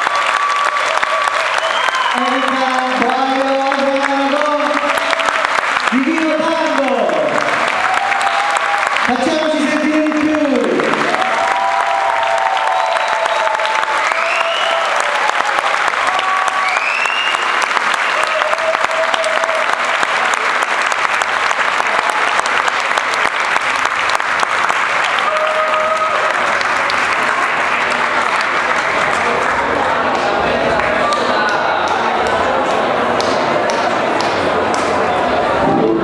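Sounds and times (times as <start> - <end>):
audience applauding: 0.0 - 35.6.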